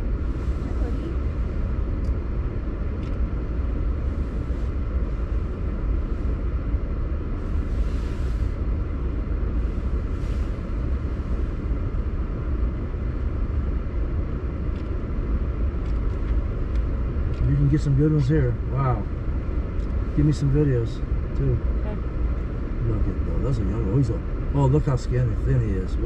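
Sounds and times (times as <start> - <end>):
car driving from inside cabin: 0.0 - 26.0.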